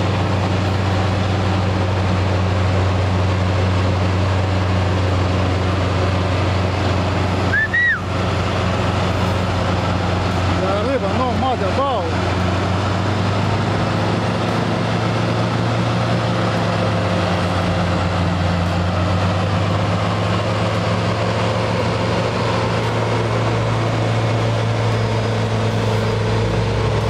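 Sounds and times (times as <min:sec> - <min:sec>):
diesel engine running under load: 0:00.0 - 0:27.0.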